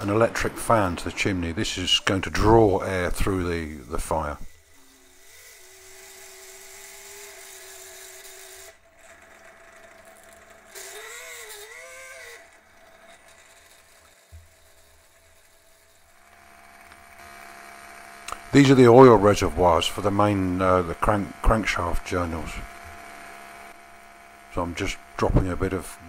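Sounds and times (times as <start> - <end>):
small electric fan whining: 0.0 - 26.0.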